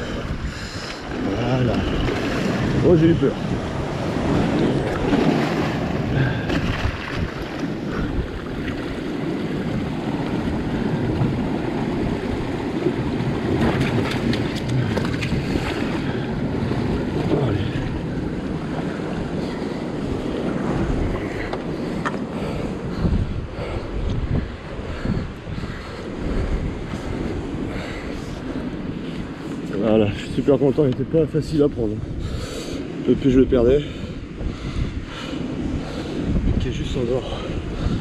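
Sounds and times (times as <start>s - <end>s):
sea surf washing over rocks: 0.0s - 38.0s
wind buffeting microphone: 0.0s - 38.0s.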